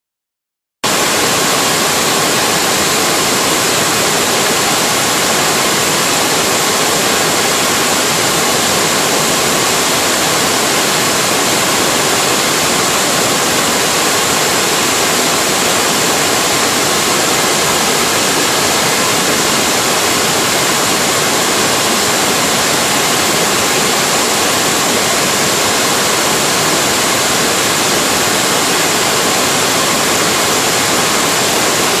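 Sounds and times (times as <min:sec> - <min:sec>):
rushing whitewater: 0:00.8 - 0:32.0.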